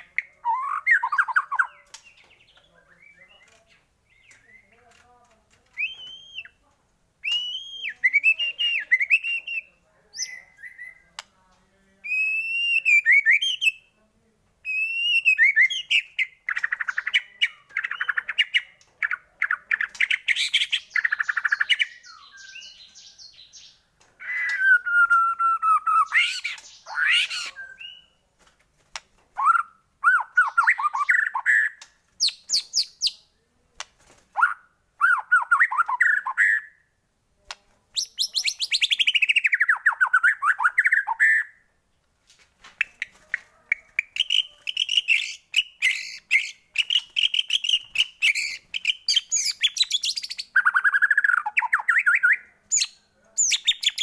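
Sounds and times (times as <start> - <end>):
songbird singing varied song: 0.0 - 6.6, 7.2 - 11.4, 12.0 - 13.9, 14.6 - 28.3, 29.4 - 33.4, 34.4 - 36.9, 37.9 - 41.7, 42.8 - 54.0.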